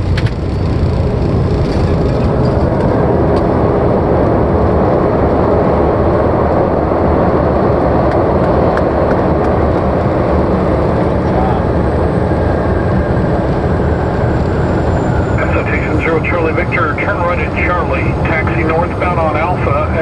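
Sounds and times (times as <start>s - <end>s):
light airplane engine rumble: 0.0s - 20.0s
rushing airflow: 0.0s - 20.0s.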